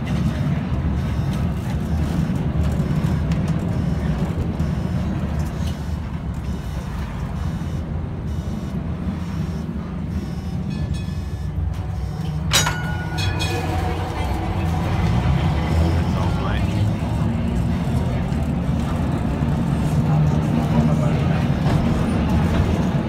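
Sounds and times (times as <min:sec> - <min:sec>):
tram rumbling and rattling on rails: 0:00.0 - 0:23.0.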